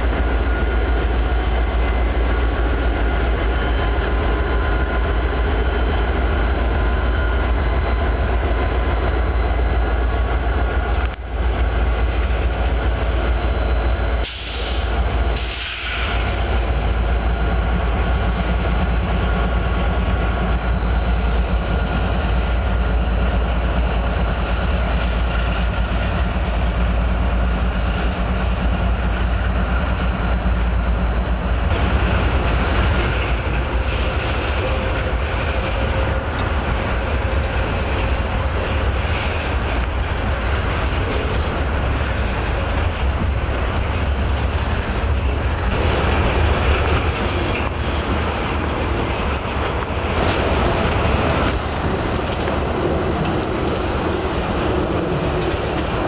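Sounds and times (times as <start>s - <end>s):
diesel locomotive rumble: 0.0s - 56.0s
train cars rolling: 0.0s - 56.0s.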